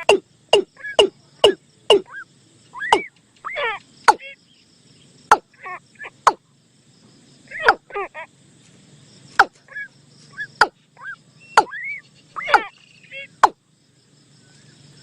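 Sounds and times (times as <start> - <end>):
bird chirping calls: 0.0 - 6.6, 7.4 - 13.7.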